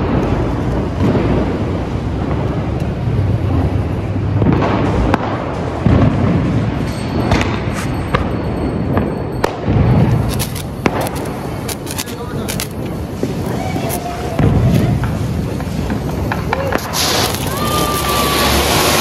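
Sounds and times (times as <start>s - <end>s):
firecracker pops and cracks: 0.0s - 8.2s, 10.2s - 19.0s
loud firework booms: 0.0s - 19.0s
rumble of distant fireworks: 0.0s - 19.0s.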